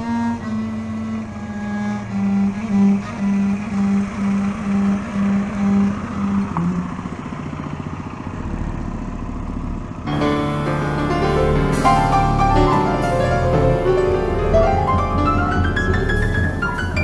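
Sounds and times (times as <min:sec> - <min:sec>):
low bowed string note: 0:00.0 - 0:07.7, 0:10.1 - 0:17.0
dense low rumble: 0:01.2 - 0:17.0.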